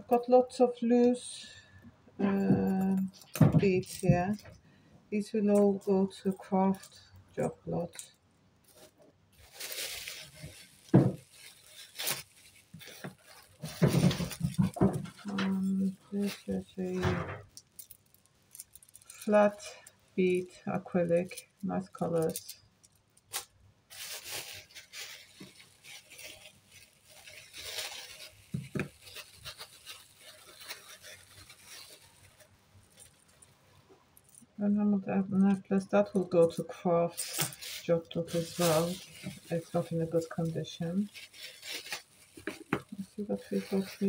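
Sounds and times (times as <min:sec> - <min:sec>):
jewellery and beads clinking: 0:02.2 - 0:04.6, 0:05.4 - 0:33.5, 0:34.2 - 0:34.6, 0:36.2 - 0:44.0
plastic bag rustling and crinkling: 0:02.2 - 0:04.6, 0:05.2 - 0:34.6, 0:35.3 - 0:44.0.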